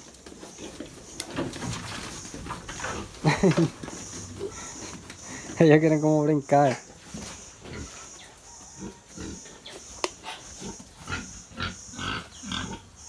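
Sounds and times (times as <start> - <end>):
pigs grunting: 0.4 - 13.0.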